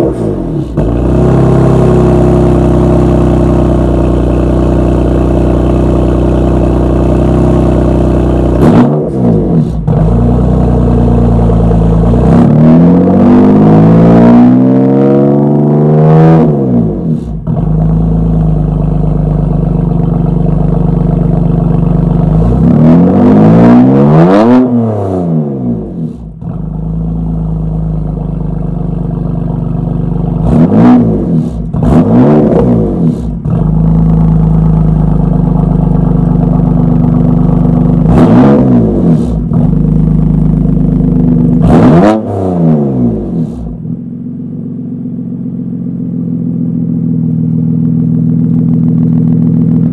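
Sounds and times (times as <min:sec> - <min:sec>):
car engine idling: 0:00.0 - 0:12.5, 0:16.7 - 0:22.9, 0:25.7 - 0:41.8, 0:43.0 - 0:49.9
car engine revving with cracks: 0:00.0 - 0:49.9.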